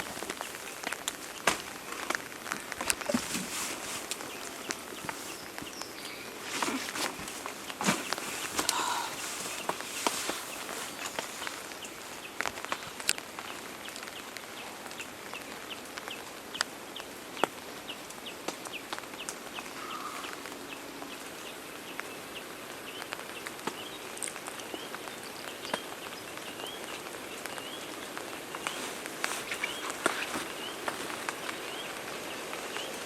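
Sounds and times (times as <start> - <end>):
steady hiss: 0.0 - 33.0.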